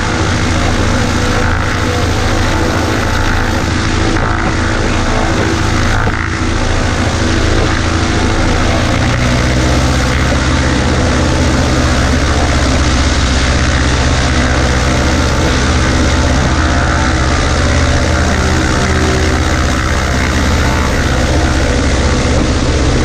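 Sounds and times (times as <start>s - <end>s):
propeller plane engine running: 0.0s - 23.0s.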